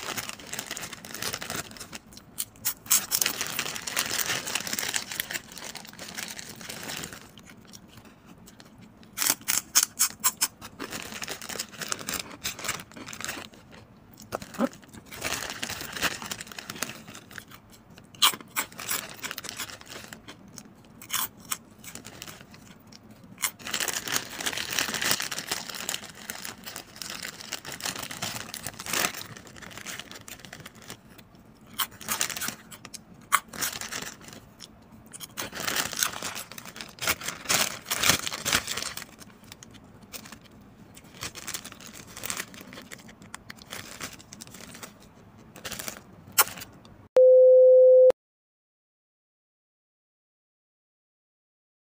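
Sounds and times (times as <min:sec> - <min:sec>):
crunchy food being chewed: 0:00.0 - 0:46.7.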